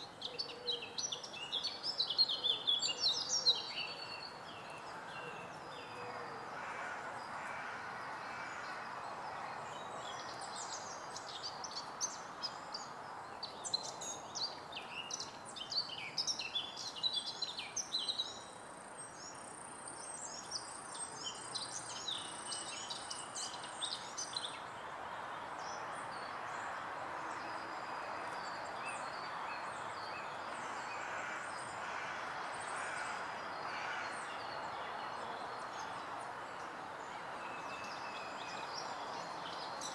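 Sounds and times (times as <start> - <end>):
woodland background hiss: 0.0 - 39.9.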